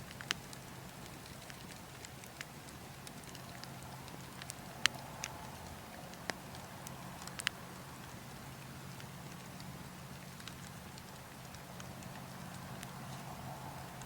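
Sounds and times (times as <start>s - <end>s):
burning logs crackling: 0.0s - 14.0s.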